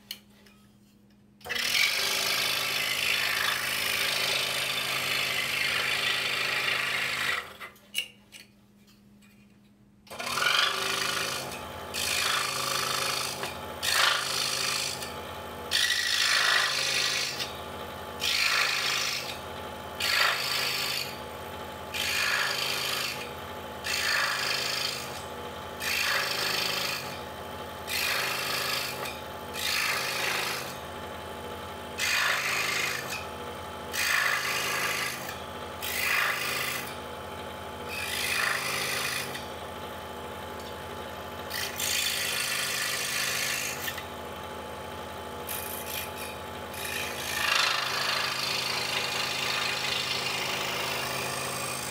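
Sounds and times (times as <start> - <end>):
saw motor hum: 1.4 - 7.6, 10.1 - 51.9
scroll saw cutting wood: 1.4 - 7.7, 10.1 - 17.6, 18.2 - 21.3, 21.9 - 30.9, 31.9 - 33.3, 33.9 - 37.1, 37.8 - 39.7, 40.6 - 44.2, 45.4 - 51.9.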